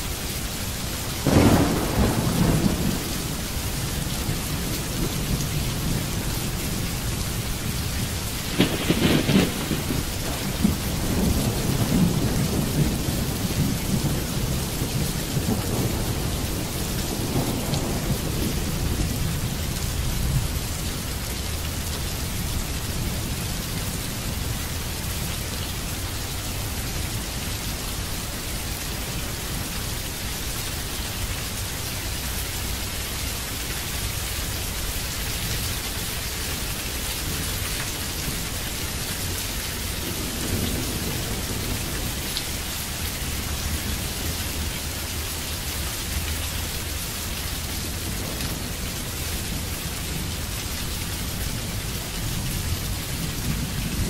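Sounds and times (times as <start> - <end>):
heavy rain on wet ground: 0.0 - 54.0
thunder rumbles: 1.2 - 33.4, 34.1 - 45.3, 46.1 - 54.0.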